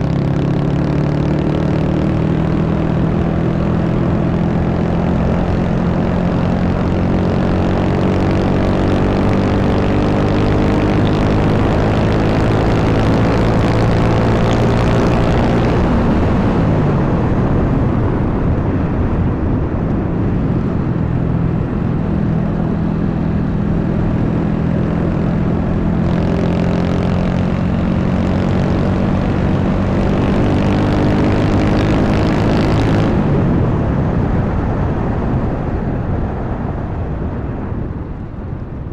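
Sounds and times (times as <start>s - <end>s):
motorcycle engine running: 0.0s - 18.0s, 18.8s - 33.8s
wind rushing over microphone: 0.0s - 38.9s.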